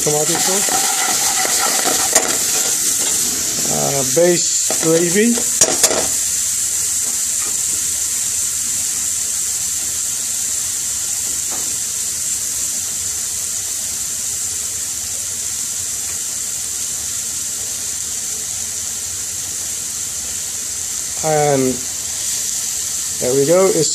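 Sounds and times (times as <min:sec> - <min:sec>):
sauce sizzling in a frying pan: 0:00.0 - 0:23.9.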